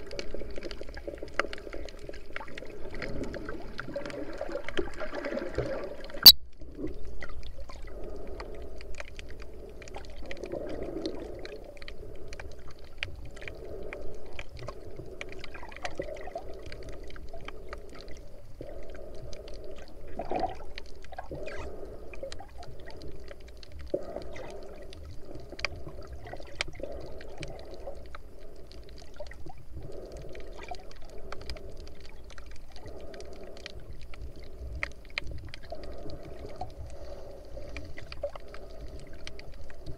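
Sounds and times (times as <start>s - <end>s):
muffled underwater moving water: 0.0s - 39.9s
small underwater clicks: 0.0s - 39.9s.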